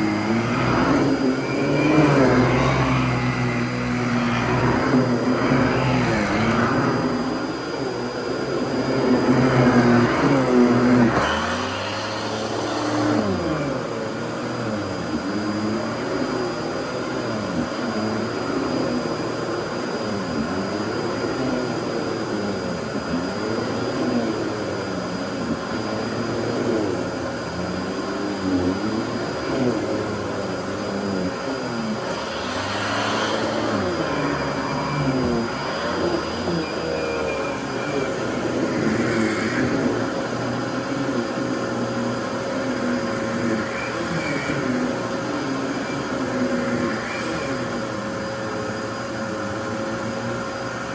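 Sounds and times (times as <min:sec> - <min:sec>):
vacuum cleaner humming: 0:00.0 - 0:50.9.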